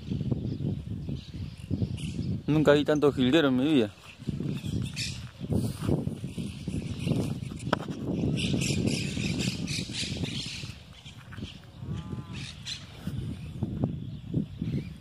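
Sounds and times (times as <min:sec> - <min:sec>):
wind rumble on microphone: 0:00.0 - 0:15.0
flock of finches chirping: 0:00.4 - 0:15.0.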